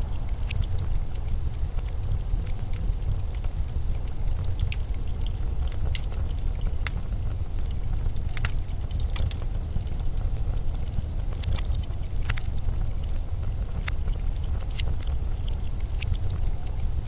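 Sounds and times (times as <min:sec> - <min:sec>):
low wind rumble: 0:00.0 - 0:17.0
sharp clicks and crackles: 0:00.0 - 0:17.0.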